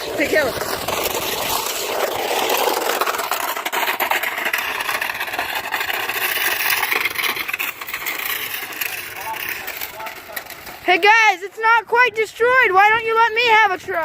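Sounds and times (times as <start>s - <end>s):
plastic casing scraping ground: 0.0s - 14.0s.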